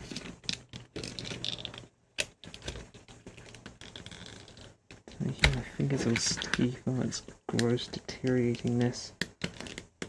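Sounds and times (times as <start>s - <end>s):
plastic parts clicking and scraping: 0.0s - 10.0s.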